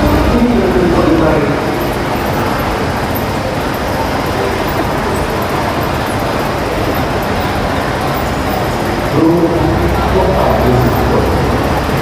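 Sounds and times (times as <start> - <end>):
crowd murmur: 0.0 - 12.0.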